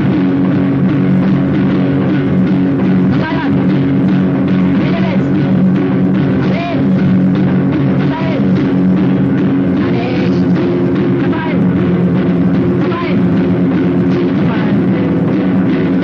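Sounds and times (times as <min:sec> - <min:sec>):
distorted punk music: 0:00.0 - 0:16.0.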